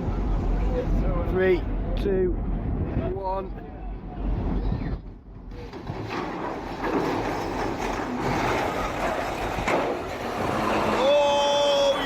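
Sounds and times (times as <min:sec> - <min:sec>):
ship hull rumbling and grinding: 0:00.0 - 0:12.0.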